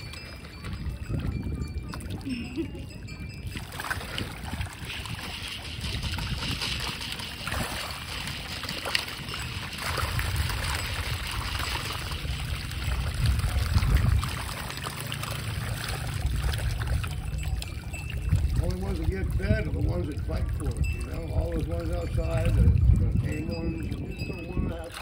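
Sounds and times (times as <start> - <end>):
fish splashing and churning water: 0.0 - 25.0.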